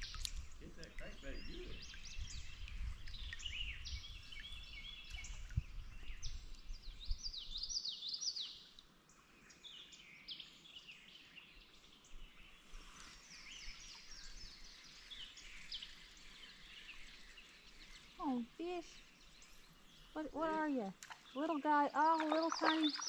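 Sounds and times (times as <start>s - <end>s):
songbirds chirping and whistling: 0.0s - 23.0s.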